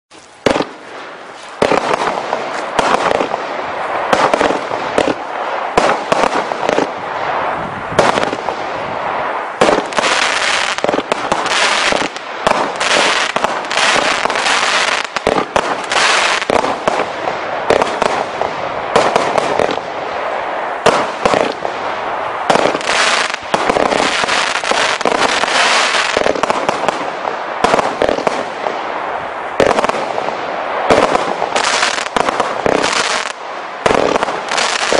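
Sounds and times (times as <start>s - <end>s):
crackling hiss of fireworks: 0.1s - 34.9s.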